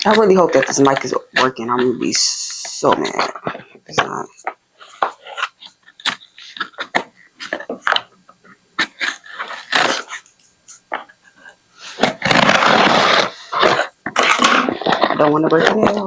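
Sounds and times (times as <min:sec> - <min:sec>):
package tearing: 0:00.0 - 0:08.1, 0:08.8 - 0:10.4, 0:11.9 - 0:16.0
package rustling and scraping: 0:00.0 - 0:16.0.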